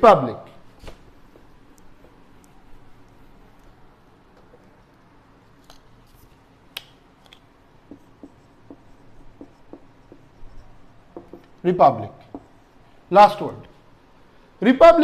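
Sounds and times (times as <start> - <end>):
marker writing on whiteboard: 0.5 - 6.4, 7.2 - 13.7.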